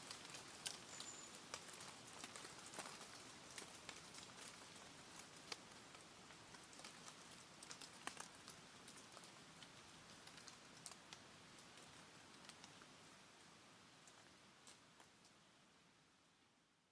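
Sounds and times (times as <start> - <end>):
campfire crackling: 0.0 - 15.7.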